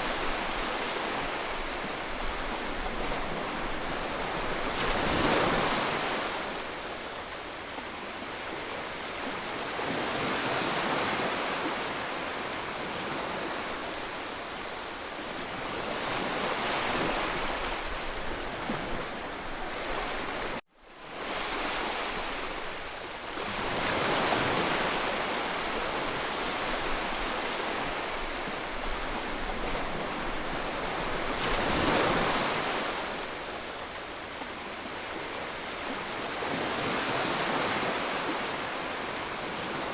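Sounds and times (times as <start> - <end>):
sea waves breaking ashore: 0.0 - 39.9.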